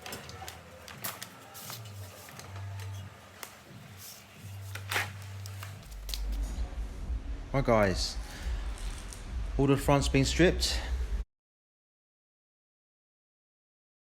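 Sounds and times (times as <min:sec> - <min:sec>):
background music with low bass: 0:00.0 - 0:11.2.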